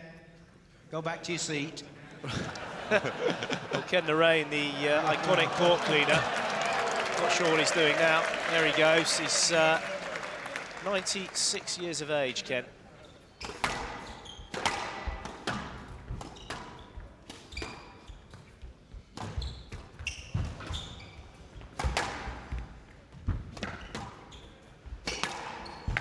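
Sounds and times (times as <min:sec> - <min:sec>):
shoes squeaking on court floor: 0:03.5 - 0:26.0.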